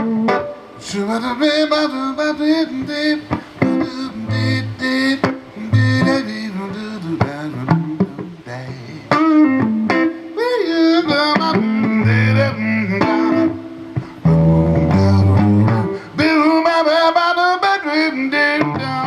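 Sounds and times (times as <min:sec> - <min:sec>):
blues band playing: 0:00.0 - 0:19.0
guitar soloing with bent notes: 0:00.0 - 0:19.0.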